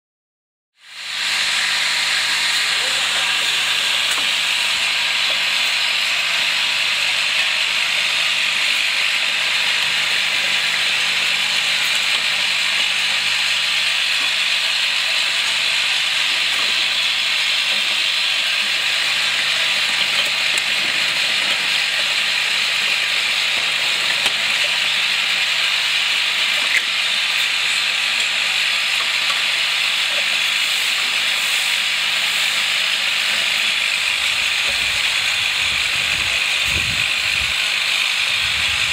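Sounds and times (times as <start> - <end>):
filling machine hissing: 0.8 - 38.9.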